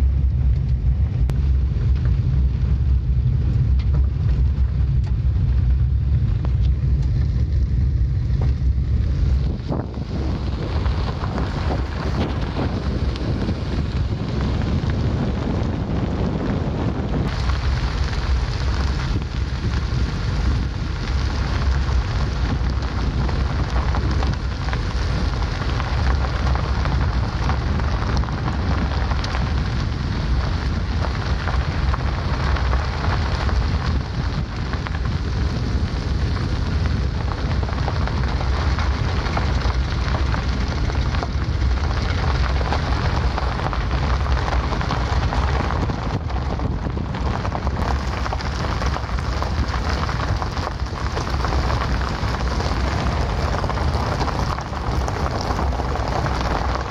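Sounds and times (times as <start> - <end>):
tyres rolling on gravel: 0.0 - 56.9
vehicle rumbling on dirt road: 0.0 - 56.9.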